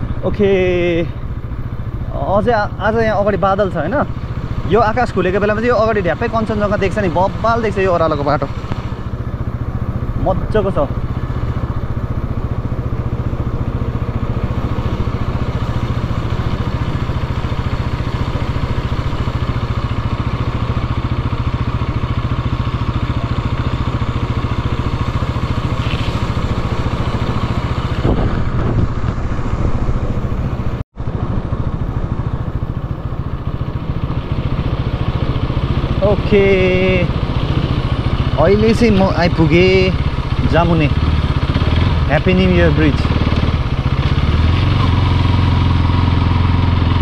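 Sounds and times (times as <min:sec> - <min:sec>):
motorcycle engine running: 0:00.0 - 0:47.0
road and wind noise: 0:00.0 - 0:47.0.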